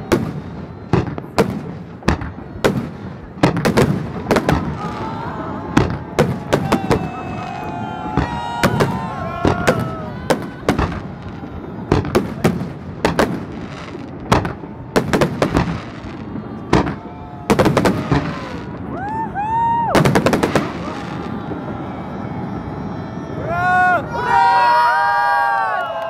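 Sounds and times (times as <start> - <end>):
spectators whooping: 0.0 - 26.0.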